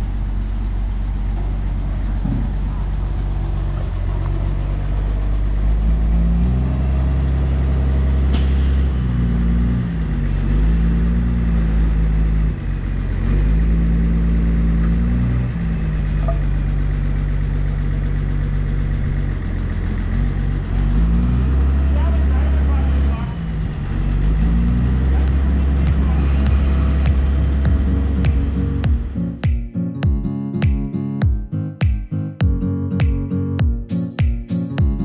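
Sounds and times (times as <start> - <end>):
crane truck engine revving: 0.0 - 29.4.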